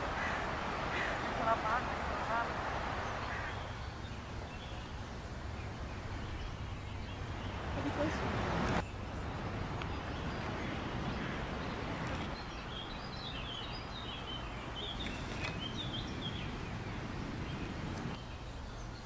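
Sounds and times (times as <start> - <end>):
low outdoor air rumble: 0.0 - 19.0
small birds chirping: 0.0 - 19.0.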